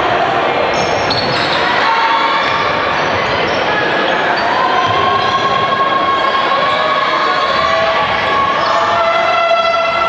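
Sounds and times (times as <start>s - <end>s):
din of indoor hall: 0.0s - 10.0s.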